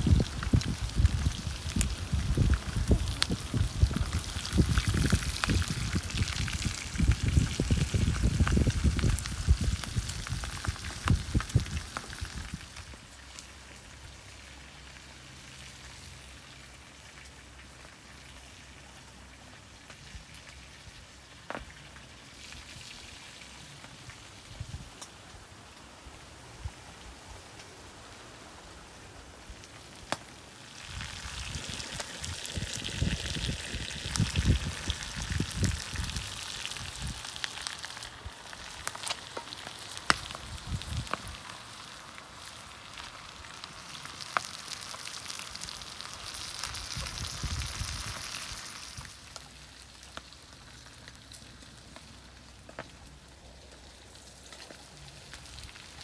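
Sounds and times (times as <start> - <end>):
offal sizzling in a frying pan: 0.0 - 24.9, 30.0 - 56.0.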